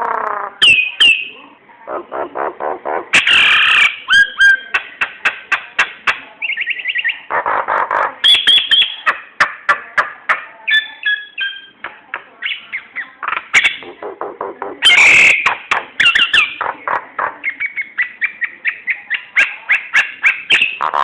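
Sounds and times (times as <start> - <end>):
myna calling with clicks and whistles: 0.6 - 1.4, 2.0 - 21.0.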